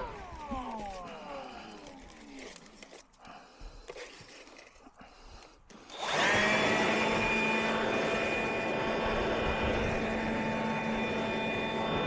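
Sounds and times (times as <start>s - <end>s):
motor tool whining: 0.0s - 12.0s.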